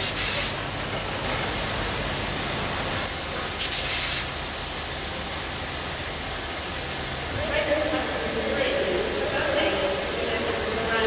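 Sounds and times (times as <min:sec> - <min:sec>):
steam blast: 0:00.0 - 0:11.0
steam locomotive hissing: 0:00.0 - 0:11.0.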